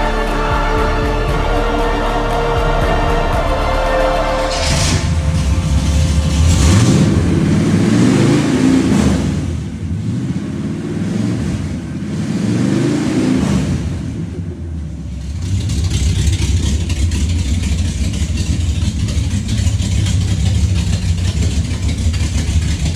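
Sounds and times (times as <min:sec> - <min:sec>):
open exhaust car engine revving: 0:00.0 - 0:22.9.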